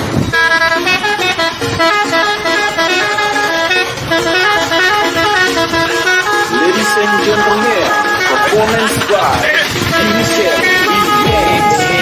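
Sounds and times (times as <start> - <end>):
multi-tone horn playing melody: 0.2 - 12.0.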